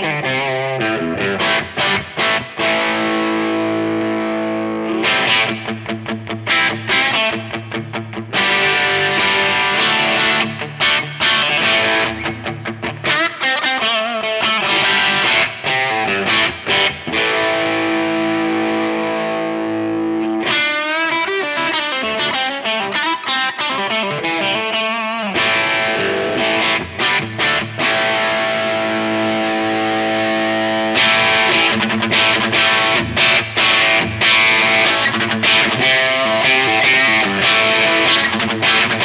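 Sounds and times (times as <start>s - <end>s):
overdriven electric guitar: 0.0s - 39.0s.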